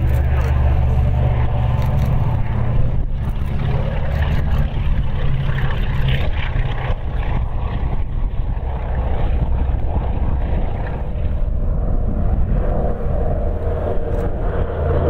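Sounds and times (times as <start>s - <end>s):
higher engine hum: 0.0s - 15.0s
propeller aircraft engines droning: 0.0s - 15.0s.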